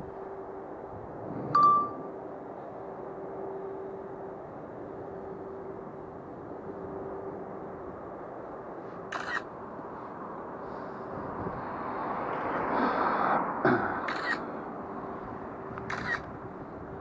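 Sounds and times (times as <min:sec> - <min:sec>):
street ambience: 0:00.0 - 0:17.0
passing car: 0:03.1 - 0:17.0.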